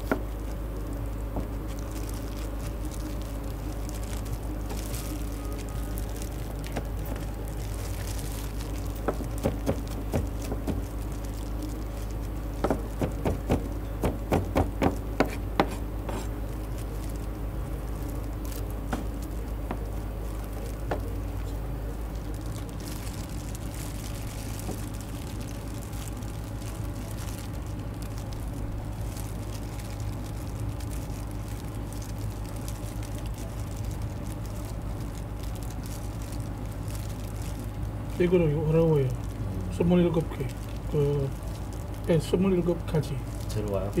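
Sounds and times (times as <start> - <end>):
low kitchen hum: 0.0 - 44.0.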